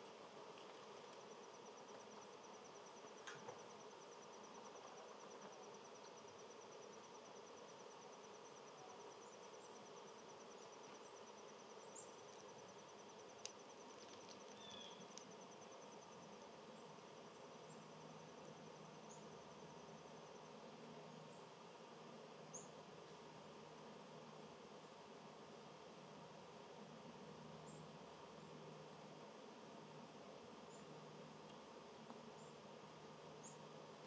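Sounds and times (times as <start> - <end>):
high insect trill: 0.0 - 29.2.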